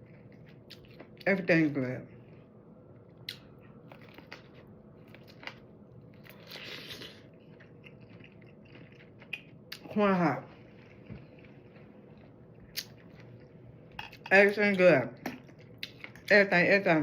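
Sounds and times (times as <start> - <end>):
person chewing food: 0.0 - 1.2, 2.2 - 14.3, 15.4 - 16.3.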